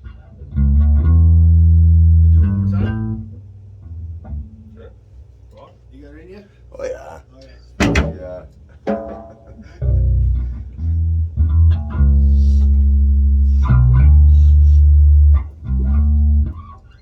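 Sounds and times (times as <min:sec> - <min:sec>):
bass guitar low notes: 0:00.0 - 0:05.5, 0:07.8 - 0:17.0.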